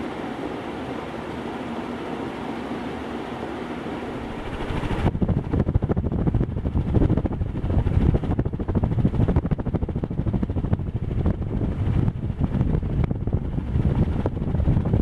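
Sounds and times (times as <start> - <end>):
ceiling fan buffeting microphone: 0.0 - 15.0.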